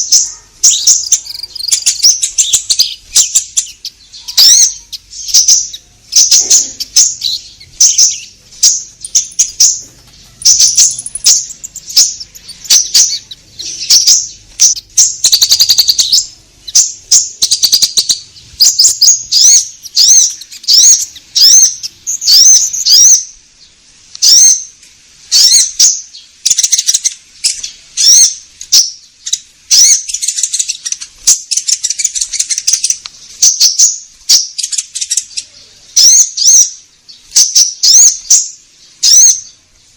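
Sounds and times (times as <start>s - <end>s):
high-pitched bird chirping: 0.0s - 39.6s.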